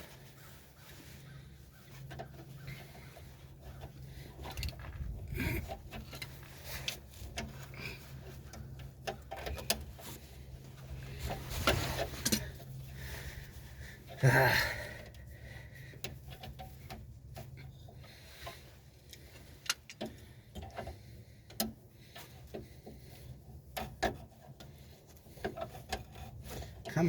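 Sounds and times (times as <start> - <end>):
steady low hum: 0.0 - 26.8
metallic clicks of brake parts: 2.0 - 13.0, 14.9 - 27.0.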